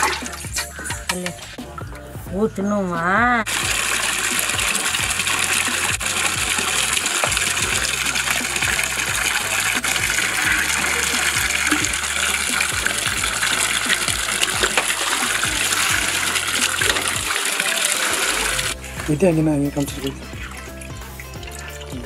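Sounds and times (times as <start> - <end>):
water sloshing and splashing: 0.0 - 2.0, 3.4 - 22.0
water poured out of pot: 3.5 - 22.0.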